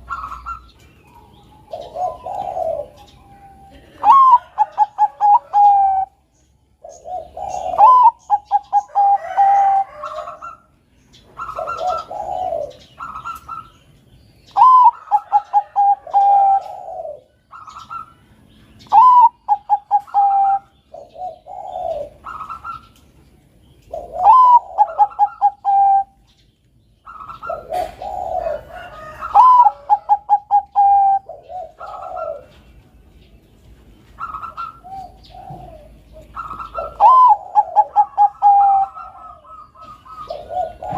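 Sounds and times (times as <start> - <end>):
dove cooing: 0.0 - 13.9, 14.5 - 26.3, 27.0 - 33.0, 34.0 - 40.9.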